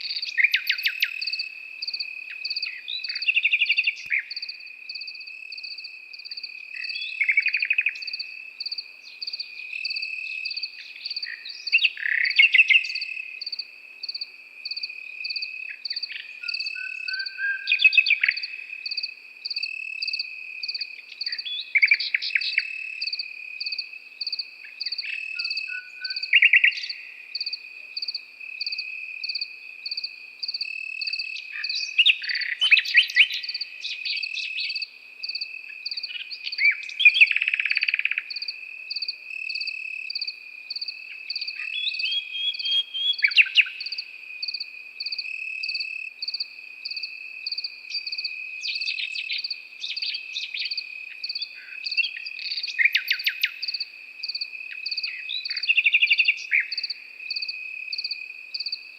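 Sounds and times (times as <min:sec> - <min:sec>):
cricket chirping steadily: 0:00.0 - 0:58.9
cricket continuous high trill: 0:00.0 - 0:58.9
nightingale singing: 0:00.0 - 0:58.9.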